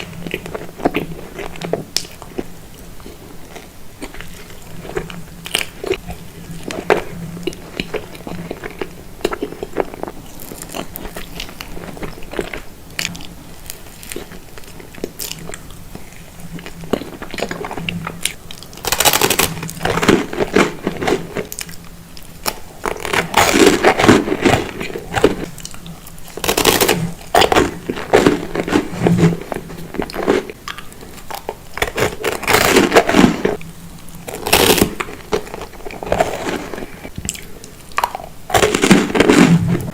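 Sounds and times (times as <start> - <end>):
person biting and chewing pastry: 0.0 - 33.6, 34.2 - 39.9.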